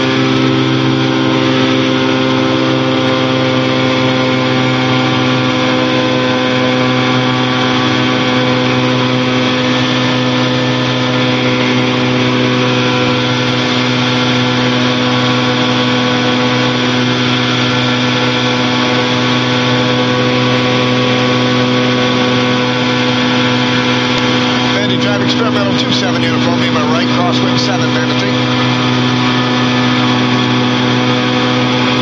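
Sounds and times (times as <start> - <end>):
aircraft engine and propeller droning: 0.0 - 32.0.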